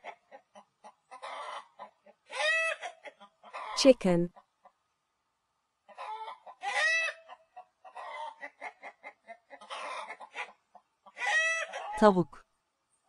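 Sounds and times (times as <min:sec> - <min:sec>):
hen clucking: 0:00.0 - 0:04.5, 0:05.9 - 0:12.2.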